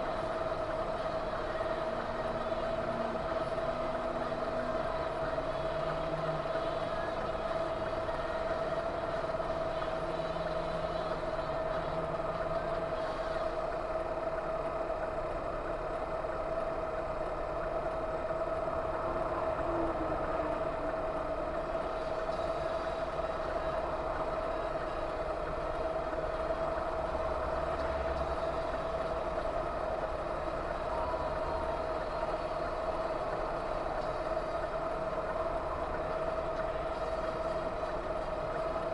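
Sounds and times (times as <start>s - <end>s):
constant hum: 0.0s - 38.9s.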